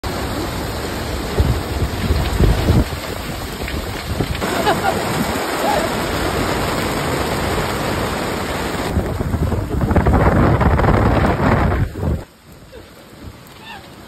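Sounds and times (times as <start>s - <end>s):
heavy rain: 0.0s - 14.0s
wind buffeting microphone: 0.7s - 13.5s.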